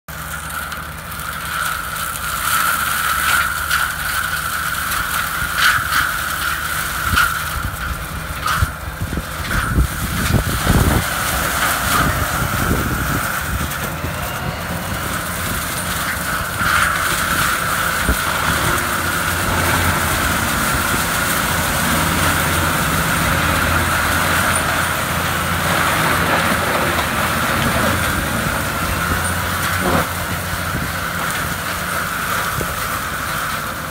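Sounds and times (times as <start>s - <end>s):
tractor diesel engine under load: 0.0s - 33.9s
mulcher high whine: 0.3s - 33.8s.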